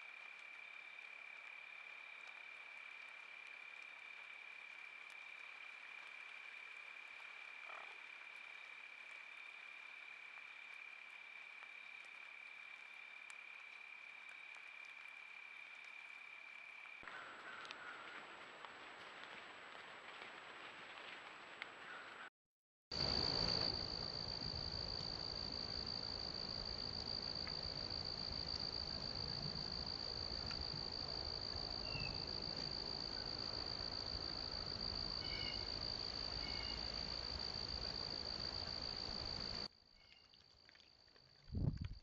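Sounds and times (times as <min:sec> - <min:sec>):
insects trilling: 0:00.0 - 0:18.1, 0:23.0 - 0:42.0.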